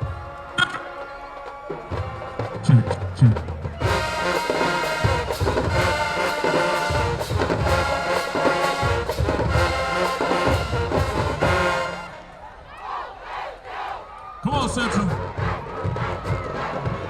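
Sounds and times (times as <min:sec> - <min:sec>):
marching band brass playing: 0:00.0 - 0:14.0, 0:14.7 - 0:17.0.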